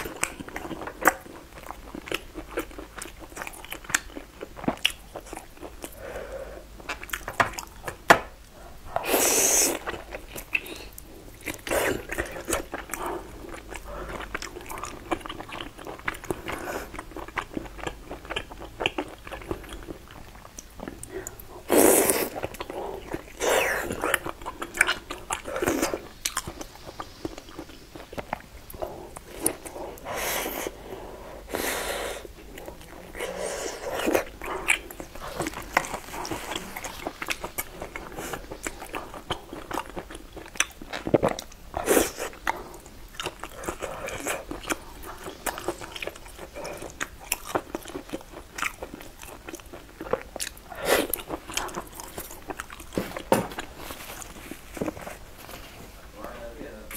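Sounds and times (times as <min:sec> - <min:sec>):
wet chewing: 0:00.0 - 0:55.7.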